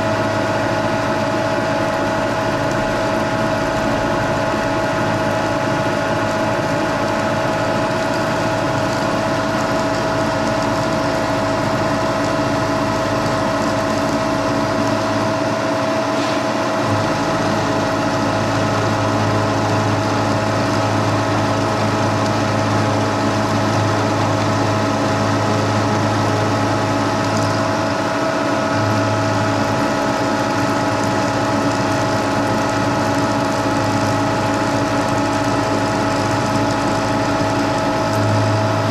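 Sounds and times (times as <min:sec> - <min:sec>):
milling machine running: 0:00.0 - 0:38.9.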